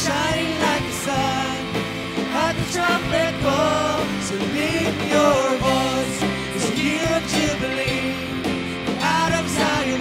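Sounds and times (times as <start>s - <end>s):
band playing: 0.0s - 10.0s
electric guitar: 0.0s - 10.0s
person singing: 0.0s - 10.0s.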